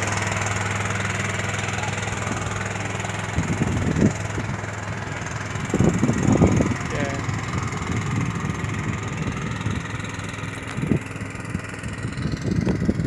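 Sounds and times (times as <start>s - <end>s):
boat engine chugging: 0.0s - 13.0s
low bumps: 0.0s - 13.0s.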